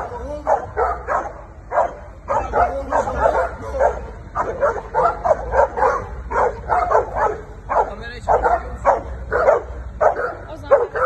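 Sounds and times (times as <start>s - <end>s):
large dogs barking: 0.0s - 11.0s.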